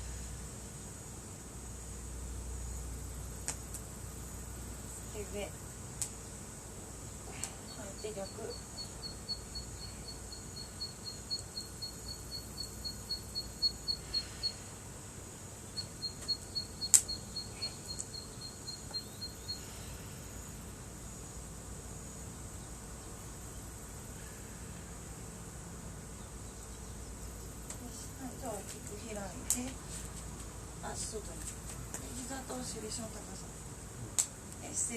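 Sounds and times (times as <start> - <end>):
thin insect trill: 0.0 - 34.9.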